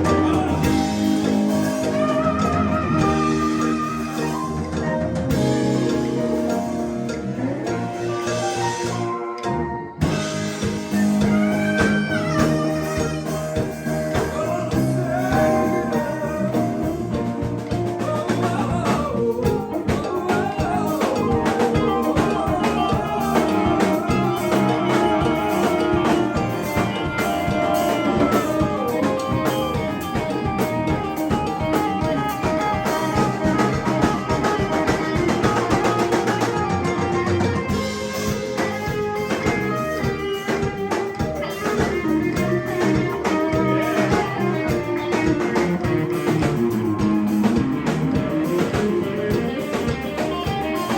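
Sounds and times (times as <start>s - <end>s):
blues guitar: 0.0s - 50.9s
drum kit: 0.0s - 50.9s.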